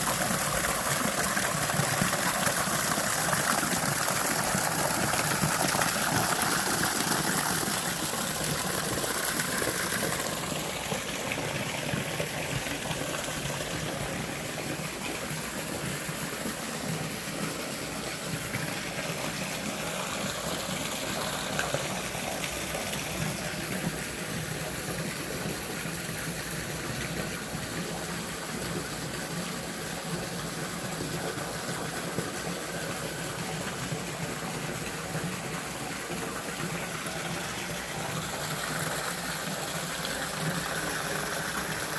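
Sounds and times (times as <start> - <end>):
waterfall pouring and splashing: 0.0 - 41.9.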